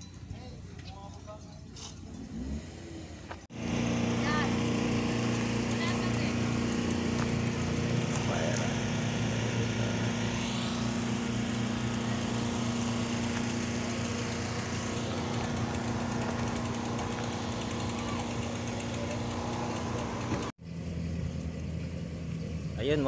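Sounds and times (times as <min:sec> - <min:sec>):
small engine humming: 0:02.0 - 0:22.8.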